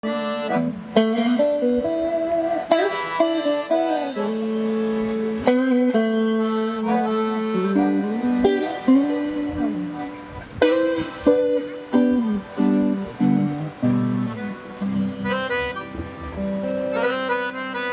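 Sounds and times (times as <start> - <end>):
accordion melody: 0.0 - 17.9
plucked guitar: 0.0 - 17.9.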